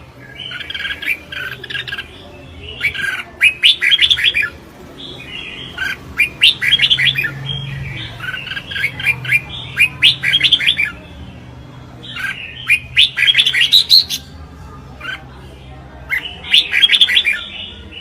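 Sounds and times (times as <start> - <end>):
bird chirping song: 0.0 - 14.4, 16.0 - 18.0.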